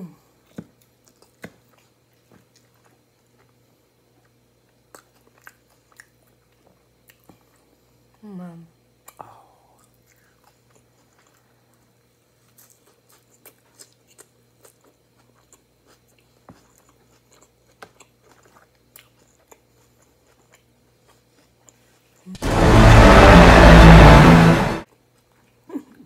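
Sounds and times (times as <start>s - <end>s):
faint chewing with soft crunches: 0.0s - 22.3s, 24.9s - 26.0s.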